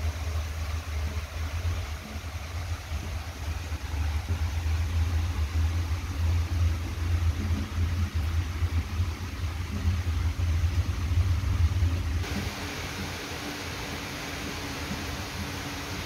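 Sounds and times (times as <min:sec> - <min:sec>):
heavy rain on glass: 0:00.0 - 0:16.0.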